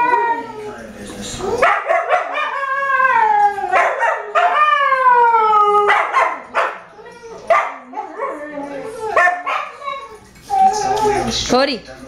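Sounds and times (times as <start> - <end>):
dog howling: 0.0 - 11.4.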